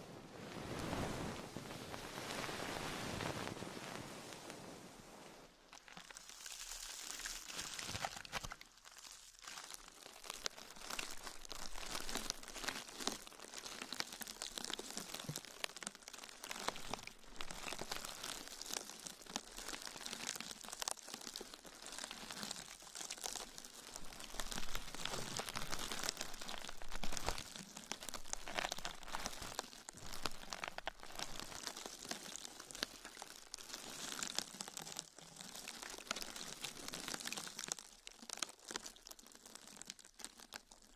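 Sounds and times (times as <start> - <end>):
crinkling and crackling: 0.0 - 40.9.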